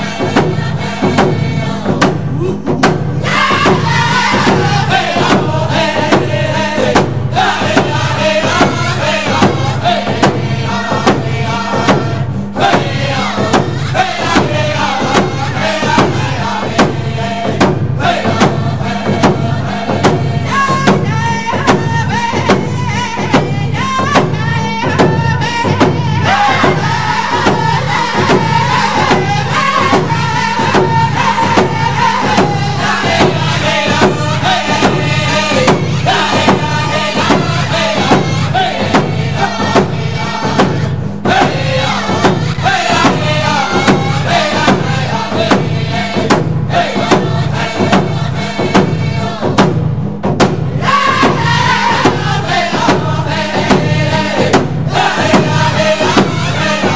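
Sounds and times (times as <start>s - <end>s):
singers chanting in unison: 0.0s - 56.9s
steady drumbeat: 0.0s - 56.9s.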